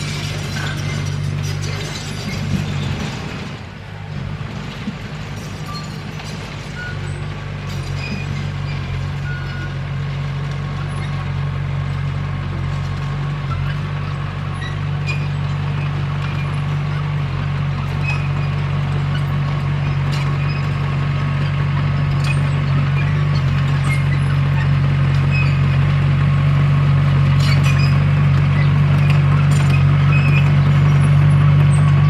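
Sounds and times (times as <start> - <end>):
bulldozer diesel engine drone: 0.0 - 32.0.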